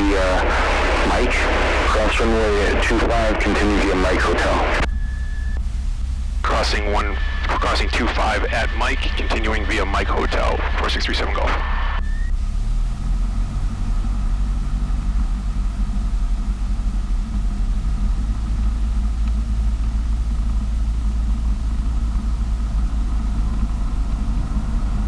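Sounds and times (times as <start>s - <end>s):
piston aircraft engine droning: 0.0s - 25.0s.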